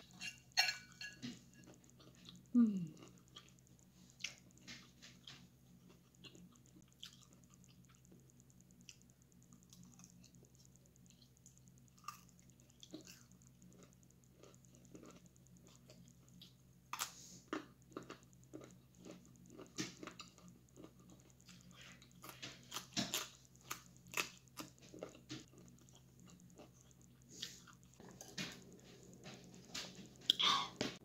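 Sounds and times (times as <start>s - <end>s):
crisp crunchy chewing: 1.3s - 30.5s.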